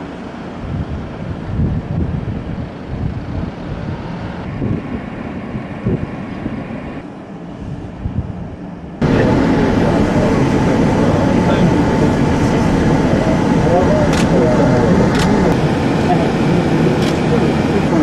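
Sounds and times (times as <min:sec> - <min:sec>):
outdoor rumble: 0:00.0 - 0:18.0
wind buffeting microphone: 0:00.0 - 0:18.0.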